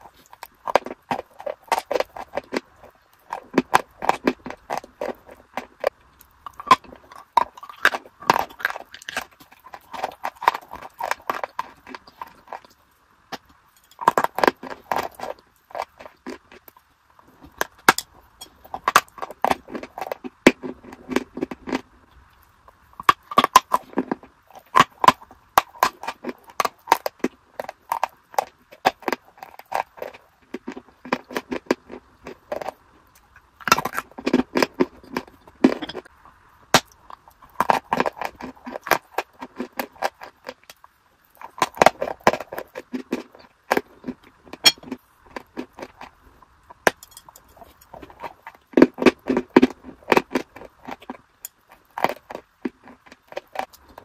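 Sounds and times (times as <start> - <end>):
hard blocks being chewed: 0.0 - 54.0.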